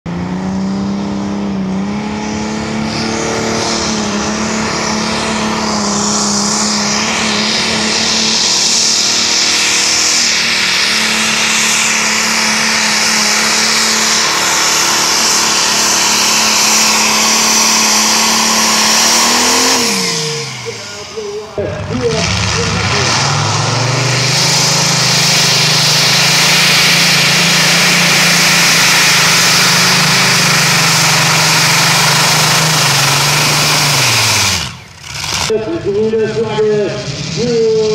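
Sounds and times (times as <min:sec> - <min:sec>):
diesel tractor engine at full throttle: 0:00.0 - 0:37.9.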